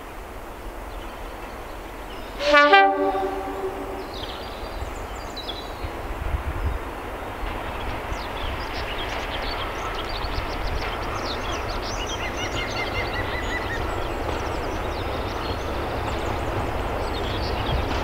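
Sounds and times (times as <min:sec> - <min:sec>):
birds chirping: 0:00.6 - 0:18.0
diesel locomotive engine rumbling: 0:00.8 - 0:18.0.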